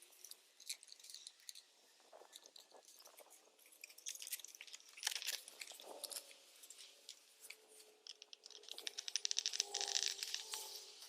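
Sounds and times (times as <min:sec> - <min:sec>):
hands crinkling and clicking trim: 0:00.1 - 0:10.8.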